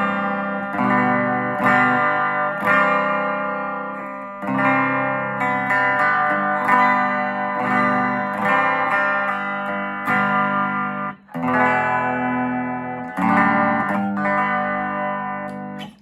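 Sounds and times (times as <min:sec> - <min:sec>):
clean electric guitar chords: 0:00.0 - 0:16.0.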